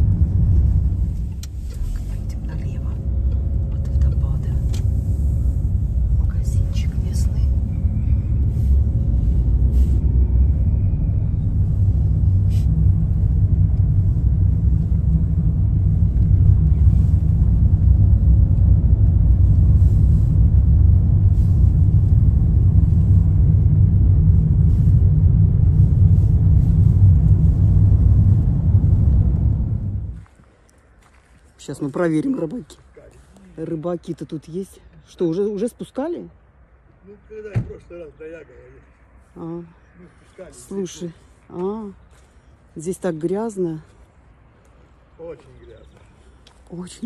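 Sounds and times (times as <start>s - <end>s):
car engine and tyre road noise: 0.0s - 47.0s.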